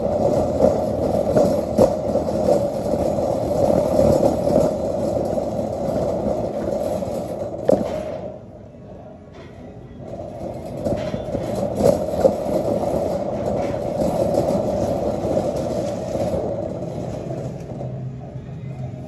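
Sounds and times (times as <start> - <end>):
shopping cart rolling and rattling: 0.0 - 8.5, 9.4 - 19.0.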